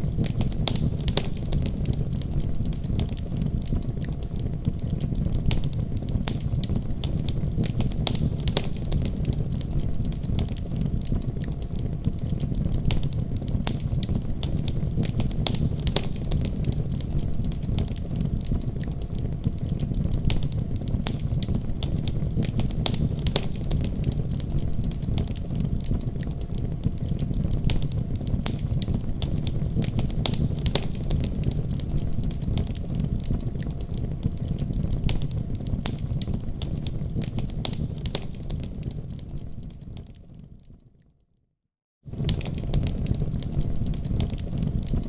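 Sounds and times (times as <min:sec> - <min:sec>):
fire crackling and popping: 0:00.0 - 0:41.0, 0:42.1 - 0:45.0
low rumble of flames: 0:00.0 - 0:41.0, 0:42.0 - 0:45.0.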